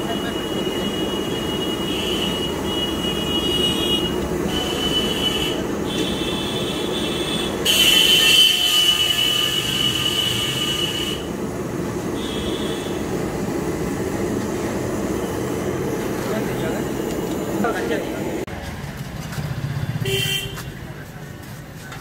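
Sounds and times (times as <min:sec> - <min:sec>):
gas burner roaring: 0:00.0 - 0:22.0
oil sizzling: 0:00.7 - 0:18.5.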